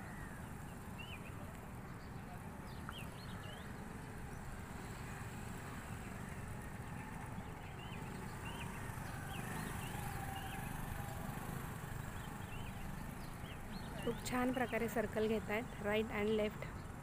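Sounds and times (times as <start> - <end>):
scooter engines running: 0.0 - 17.0.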